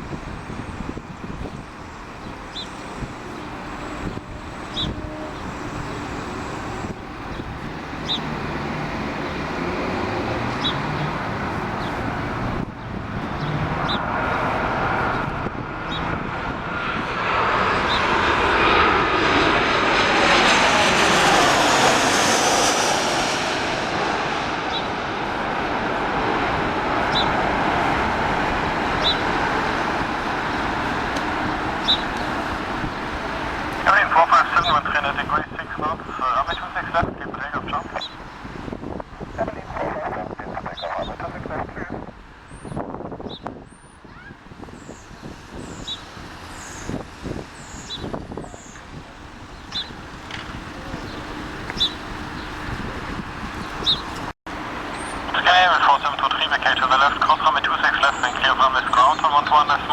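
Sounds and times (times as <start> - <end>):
jet engines passing close: 0.0 - 59.9.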